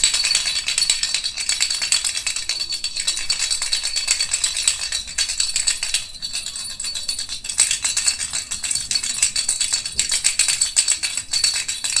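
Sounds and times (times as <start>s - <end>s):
baby rattle being shaken: 0.0s - 12.0s.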